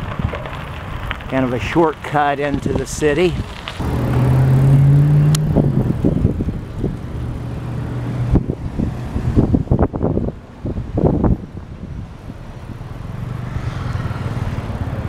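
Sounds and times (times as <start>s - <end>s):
vehicle engine hum: 0.0s - 15.0s
wind buffeting microphone: 0.0s - 15.0s.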